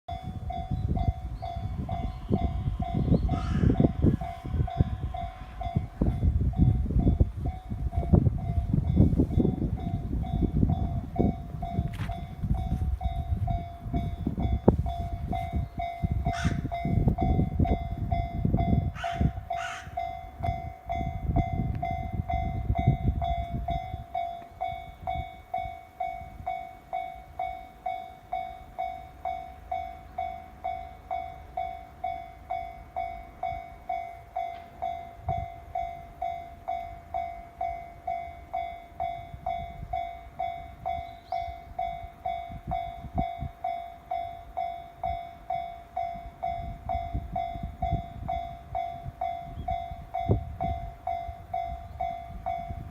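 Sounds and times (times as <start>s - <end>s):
level-crossing warning bell ringing: 0.1s - 52.9s
train rumble: 0.1s - 52.9s.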